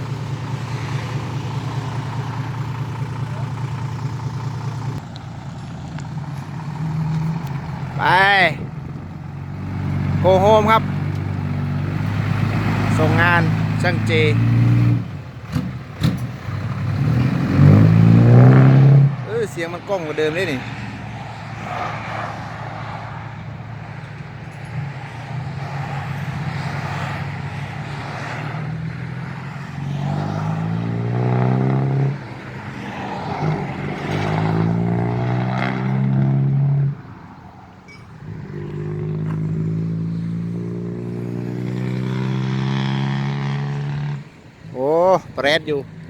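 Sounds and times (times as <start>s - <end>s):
car engine idling and revving: 0.0s - 46.0s.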